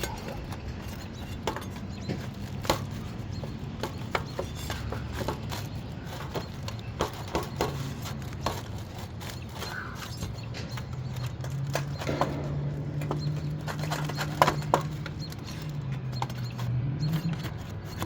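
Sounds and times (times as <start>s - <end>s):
knocks and clicks on shingle roof: 0.0s - 18.0s.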